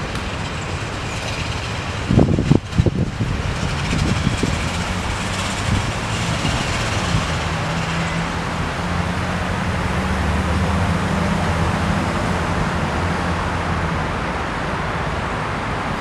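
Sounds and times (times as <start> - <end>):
road traffic rumble: 0.0 - 16.0
vehicle engine hum: 0.0 - 16.0.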